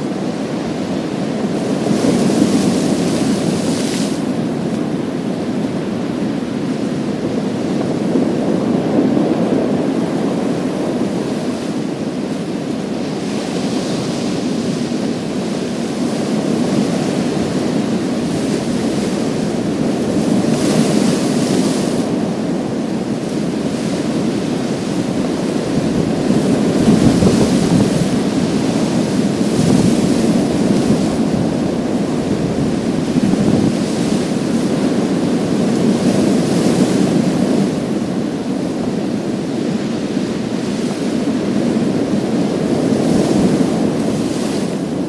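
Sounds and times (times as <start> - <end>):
sea waves washing over pebbles: 0.2 - 45.0.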